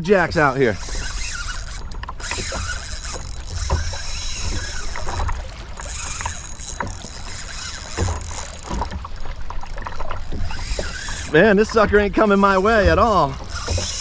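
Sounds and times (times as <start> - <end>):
waves slapping kayak hull: 0.0 - 14.0.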